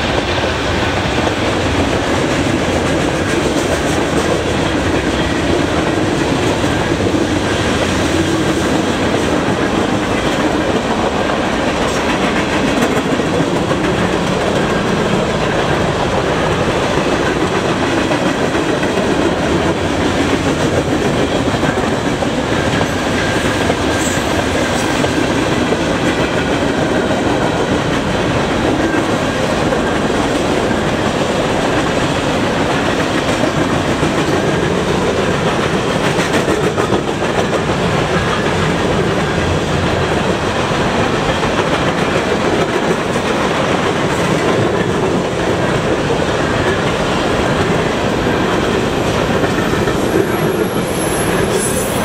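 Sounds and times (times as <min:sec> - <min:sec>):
freight train cars rolling past: 0:00.0 - 0:52.0.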